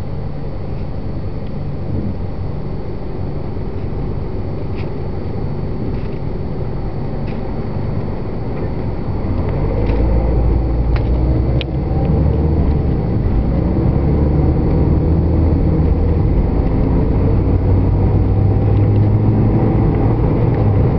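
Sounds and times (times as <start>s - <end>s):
car interior road rumble: 0.0s - 20.9s.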